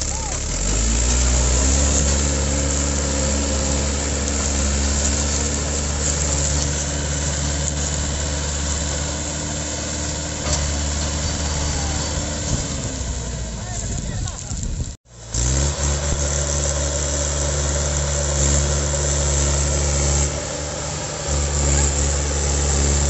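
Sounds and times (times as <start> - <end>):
tractor diesel engine running hard: 0.0 - 23.0.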